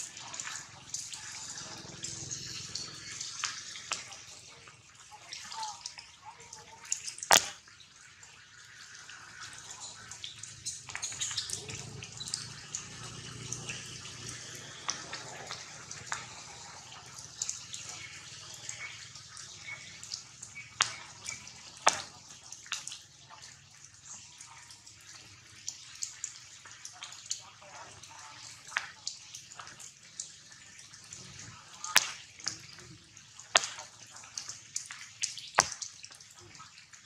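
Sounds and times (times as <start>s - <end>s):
rain drops on leaves: 0.0s - 37.0s.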